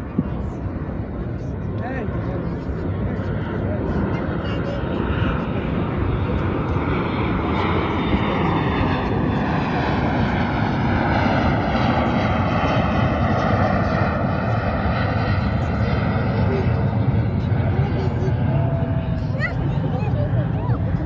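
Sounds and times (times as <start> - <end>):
airplane flying overhead: 0.0 - 21.0.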